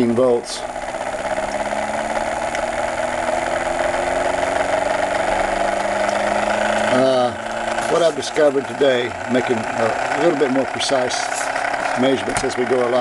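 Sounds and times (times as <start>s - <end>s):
motor rotor whirring buzz: 0.0s - 13.0s.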